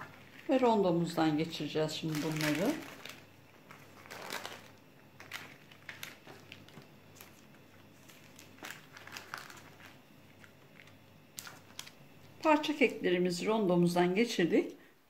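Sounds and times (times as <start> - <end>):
baking paper rustling: 0.0 - 13.0.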